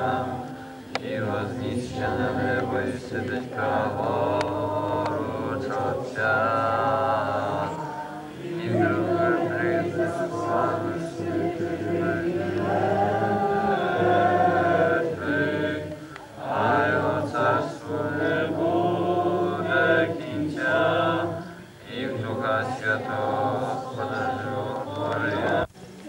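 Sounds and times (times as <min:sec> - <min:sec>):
group chanting: 0:00.0 - 0:25.7.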